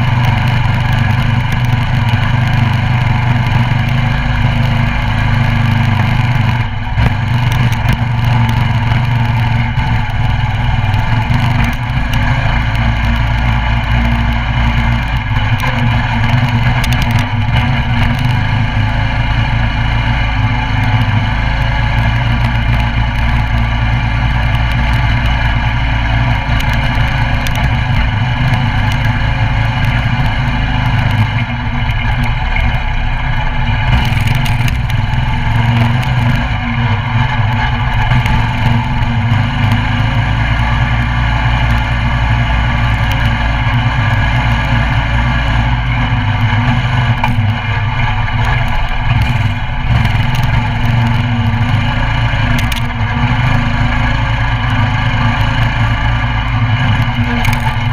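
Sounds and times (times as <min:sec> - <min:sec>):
mini bike engine running: 0:00.0 - 0:57.9.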